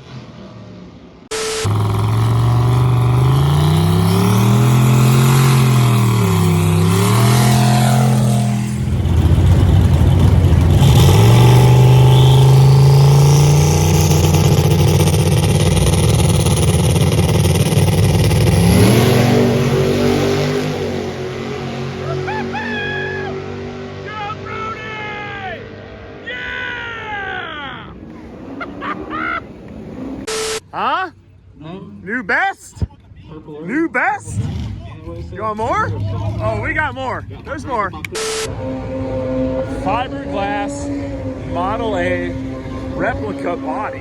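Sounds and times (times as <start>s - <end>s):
racing car engine revving: 0.0s - 26.3s, 28.0s - 30.6s, 34.2s - 44.0s.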